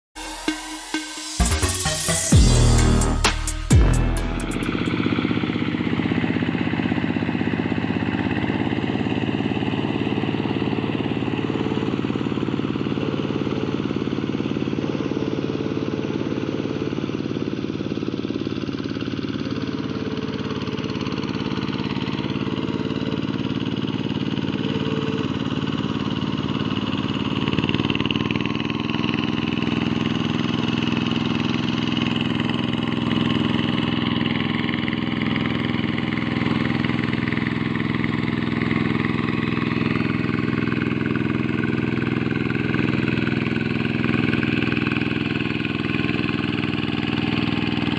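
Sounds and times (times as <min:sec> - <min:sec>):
diesel engine running: 0:00.2 - 0:47.9.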